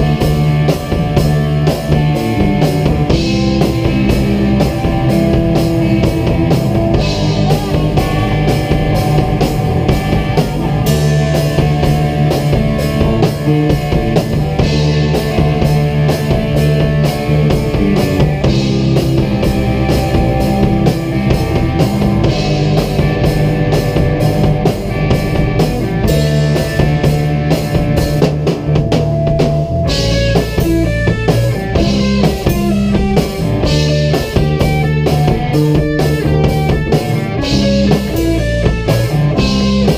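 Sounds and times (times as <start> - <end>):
drum kit beat: 0.0 - 39.9
electric guitars: 0.0 - 39.9
rock band jamming: 0.0 - 39.9.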